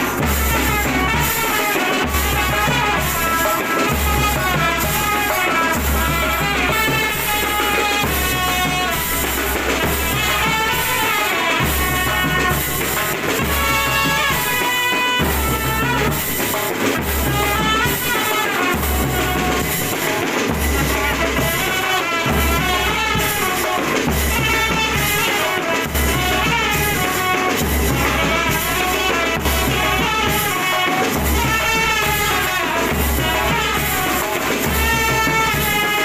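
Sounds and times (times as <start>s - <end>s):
regular drumbeat: 0.0s - 36.0s.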